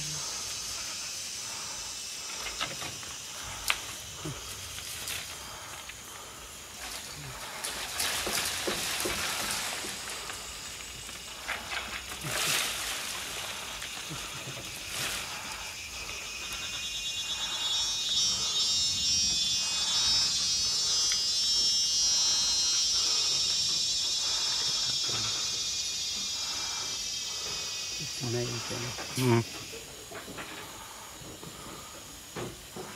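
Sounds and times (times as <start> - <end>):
pulsing insect drone: 0.0 - 32.9
rustles: 0.0 - 32.9
soft repeated insect calls: 0.0 - 32.9.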